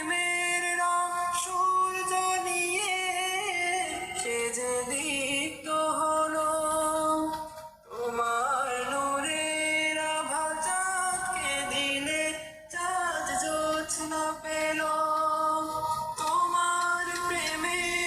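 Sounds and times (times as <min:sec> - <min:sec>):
solo devotional singing: 0:00.0 - 0:18.0.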